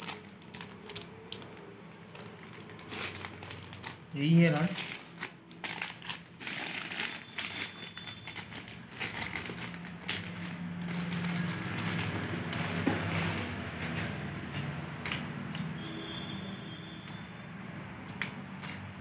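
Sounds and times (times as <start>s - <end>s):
plastic wrapping crinkling: 0.0s - 15.6s.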